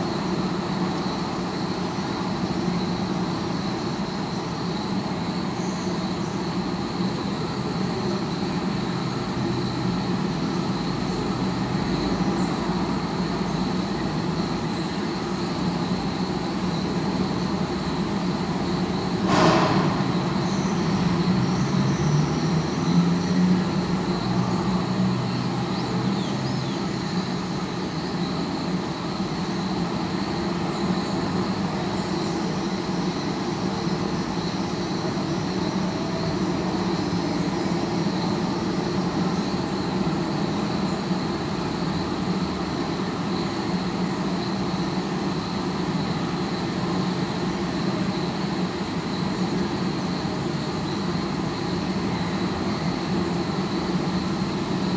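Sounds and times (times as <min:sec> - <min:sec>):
distant city traffic hum: 0:00.0 - 0:54.9.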